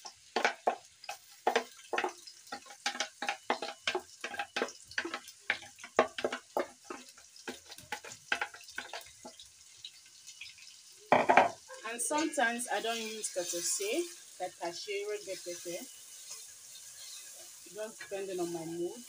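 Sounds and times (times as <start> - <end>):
paste sizzling in hot oil: 0.0 - 19.0.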